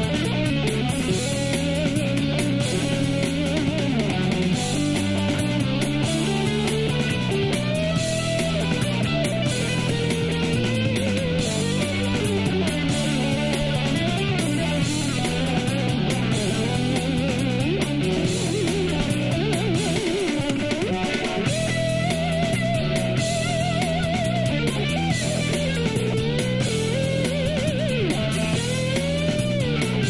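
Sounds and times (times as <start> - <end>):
electric ukulele melody: 0.0 - 30.0
lower accompaniment: 0.0 - 30.0.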